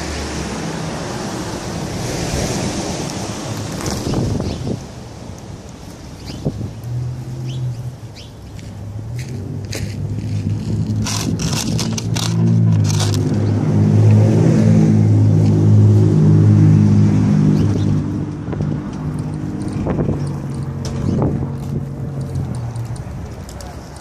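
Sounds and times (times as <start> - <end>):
vehicle engine humming: 2.9 - 24.0.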